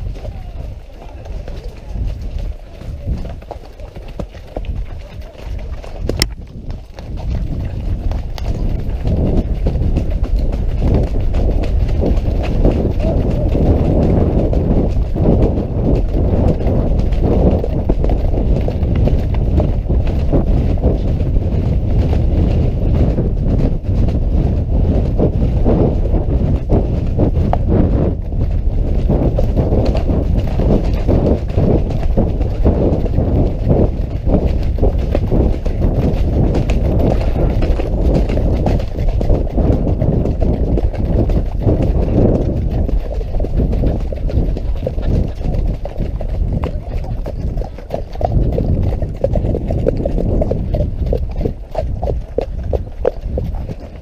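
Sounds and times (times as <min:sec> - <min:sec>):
horse hoofbeats on dirt track: 0:00.0 - 0:54.0
wind rumble on microphone: 0:00.0 - 0:54.0.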